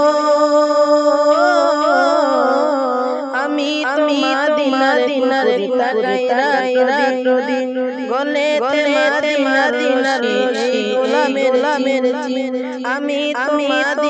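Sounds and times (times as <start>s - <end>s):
boy singing devotional song: 0.0s - 14.0s.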